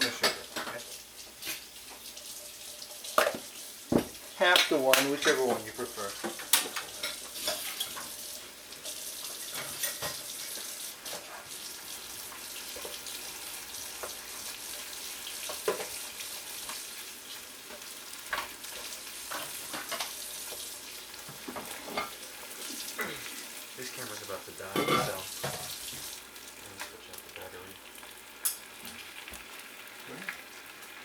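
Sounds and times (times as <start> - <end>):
sauce sizzling in a pan: 0.0 - 31.0.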